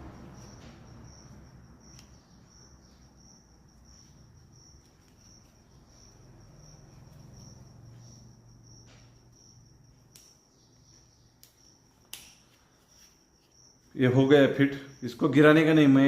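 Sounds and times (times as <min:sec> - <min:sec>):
faint low hum: 0:00.0 - 0:15.9
cricket chirping: 0:00.0 - 0:16.0.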